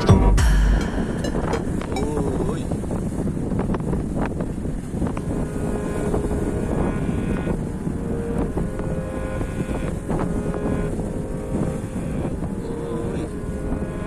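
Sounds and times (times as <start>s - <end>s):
wind buffeting microphone: 1.0s - 14.0s.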